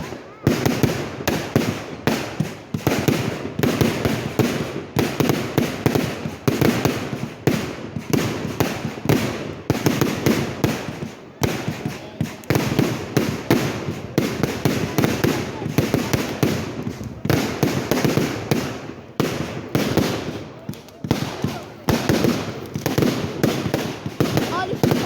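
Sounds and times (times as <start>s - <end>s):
fireworks cracking and banging: 0.0s - 25.0s.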